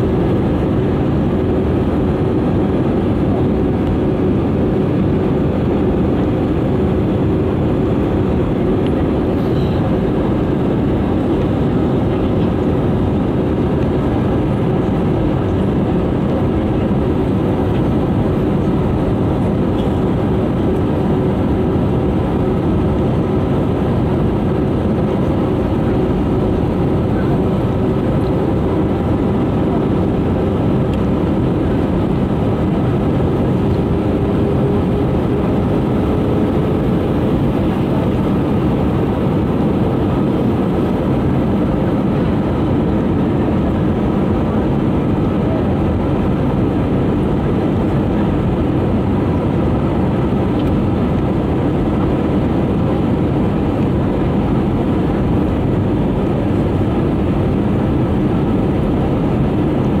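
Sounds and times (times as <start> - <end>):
faint whine: 0.0 - 60.0
jet engine and airflow noise: 0.0 - 60.0.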